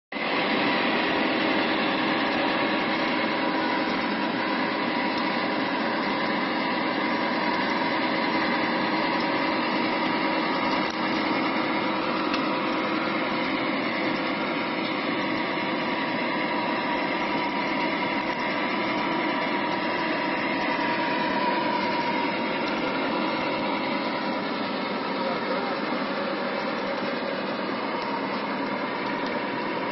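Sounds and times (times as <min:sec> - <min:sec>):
diesel engine droning: 0:00.2 - 0:29.9.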